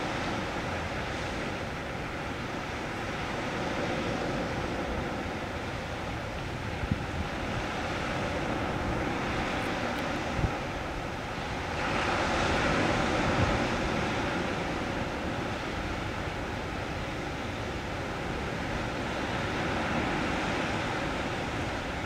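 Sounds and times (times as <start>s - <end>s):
sea waves rushing: 0.0s - 22.0s
wind: 0.0s - 22.0s.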